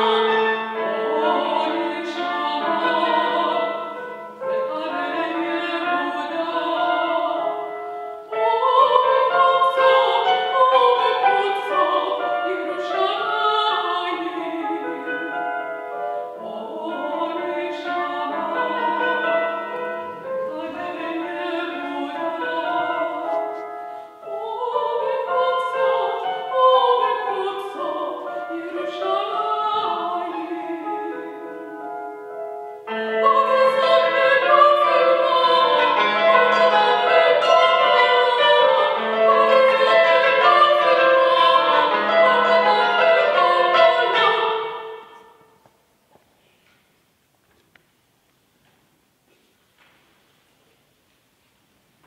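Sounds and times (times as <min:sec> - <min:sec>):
woman singing classical song: 0:00.0 - 0:45.6.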